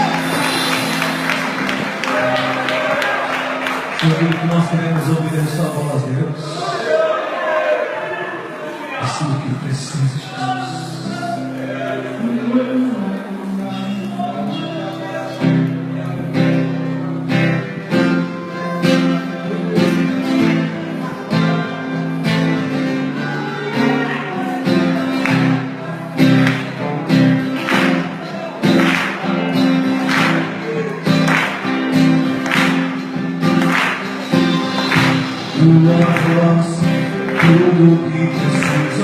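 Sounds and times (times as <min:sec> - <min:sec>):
strummed acoustic guitar: 0:00.0 - 0:06.2, 0:10.0 - 0:39.0
worship band music: 0:00.0 - 0:07.9, 0:09.0 - 0:39.0.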